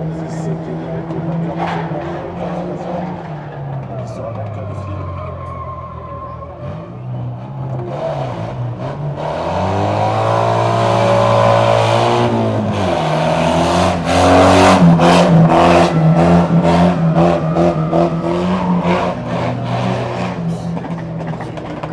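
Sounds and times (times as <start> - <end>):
racing car engines revving: 0.0 - 21.9.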